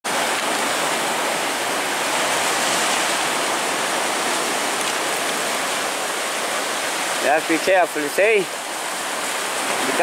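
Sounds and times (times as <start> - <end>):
waves surging around rocks: 0.1 - 10.0.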